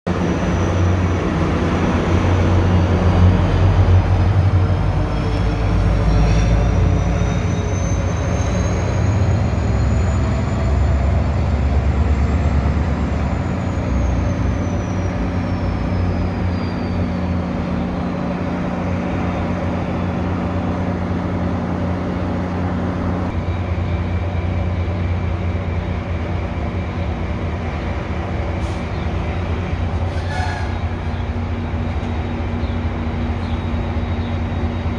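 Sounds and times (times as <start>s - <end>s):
train rumble: 0.1s - 34.9s.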